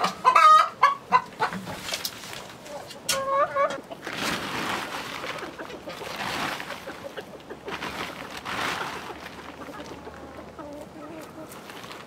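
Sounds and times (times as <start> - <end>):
chickens clucking: 0.0 - 12.0
rustling noise: 1.5 - 3.1, 3.9 - 12.0.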